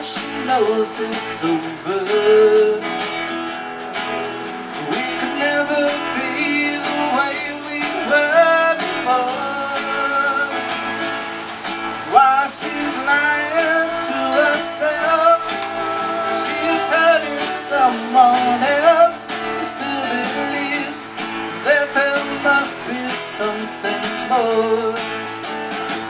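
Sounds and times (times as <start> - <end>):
strummed acoustic guitars: 0.0 - 26.0
sliding melody line: 0.7 - 26.0.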